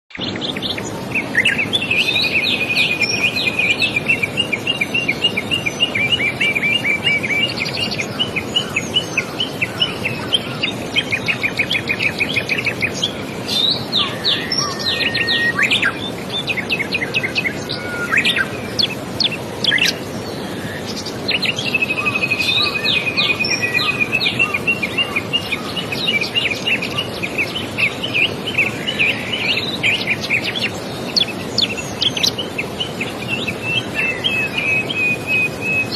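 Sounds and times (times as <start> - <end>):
songbirds singing: 0.1 - 35.9
steady rushing background noise: 0.1 - 35.9.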